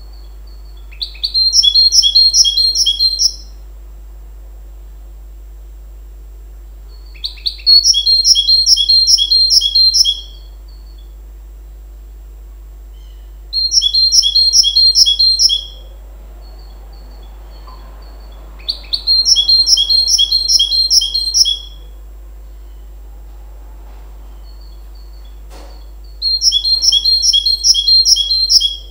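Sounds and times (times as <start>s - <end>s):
finch singing trills: 0.0s - 3.6s, 6.7s - 11.8s, 12.9s - 23.1s, 24.3s - 28.9s.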